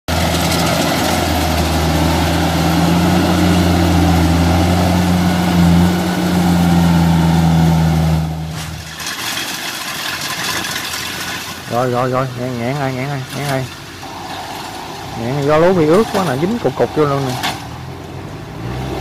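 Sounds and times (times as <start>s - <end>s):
combine harvester diesel engine: 0.1s - 19.0s.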